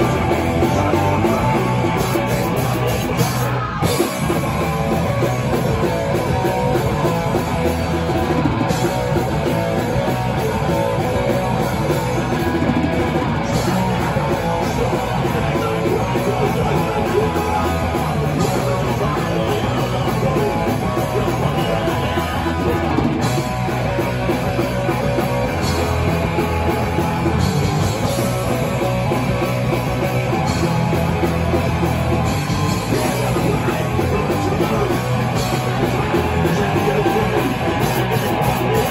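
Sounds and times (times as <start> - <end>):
heavy rock band playing: 0.0 - 38.9
person singing: 0.0 - 38.9.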